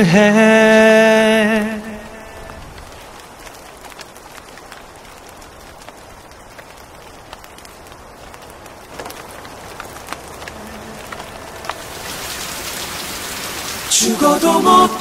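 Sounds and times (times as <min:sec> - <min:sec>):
steady rain falling: 0:00.0 - 0:15.0
drops ticking on leaves and stone: 0:00.8 - 0:14.0.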